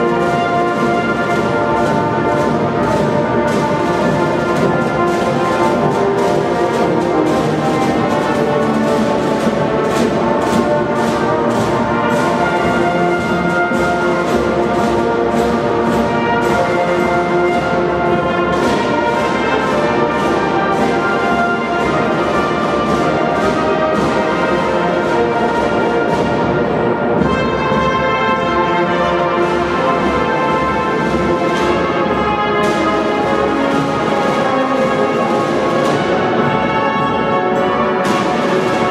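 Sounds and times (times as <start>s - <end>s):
marching band brass: 0.0s - 38.9s
snare drums beating: 0.0s - 38.9s.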